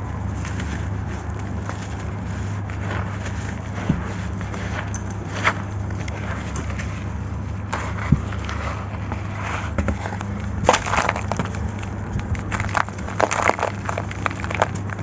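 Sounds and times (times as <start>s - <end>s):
sand-cement chunks crumbling: 0.0s - 15.0s
steady low hum: 0.0s - 15.0s.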